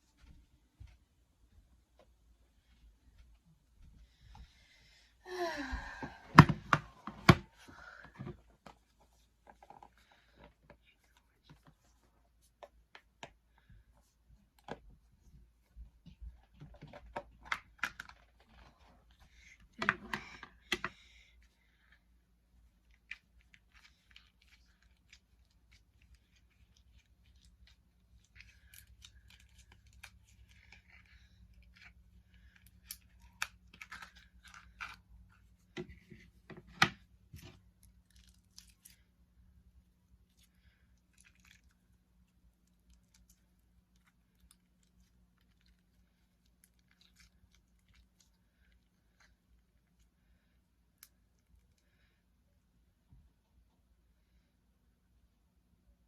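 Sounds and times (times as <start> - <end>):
faint steady low hum: 0.0 - 56.0.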